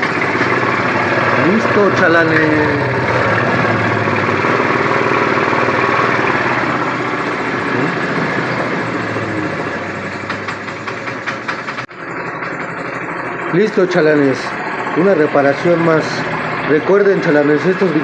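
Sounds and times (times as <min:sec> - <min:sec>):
scooter engine idling: 0:00.0 - 0:18.0.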